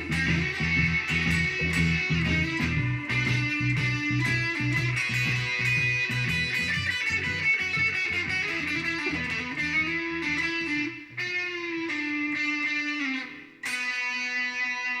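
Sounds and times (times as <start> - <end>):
blues guitar: 0.0 - 15.0.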